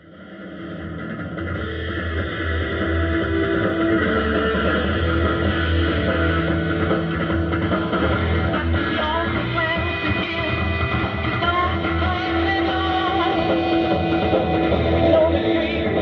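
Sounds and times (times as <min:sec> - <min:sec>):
rock music on shortwave radio: 0:00.0 - 0:16.0.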